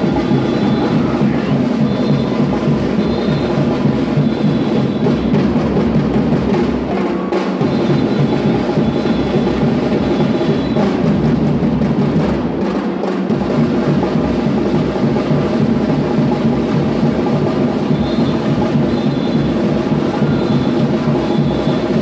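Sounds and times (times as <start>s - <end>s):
batucada drumming: 0.0s - 22.0s.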